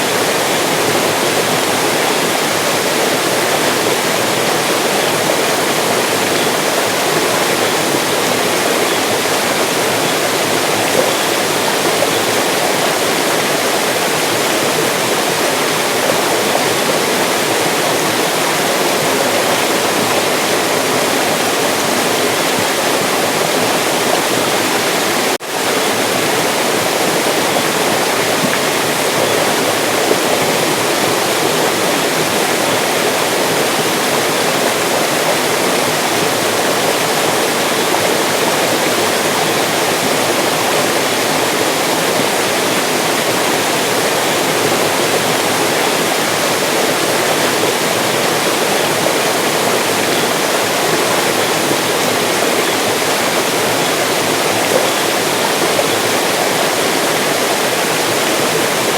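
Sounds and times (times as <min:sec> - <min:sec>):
mountain stream rushing: 0:00.0 - 0:58.9.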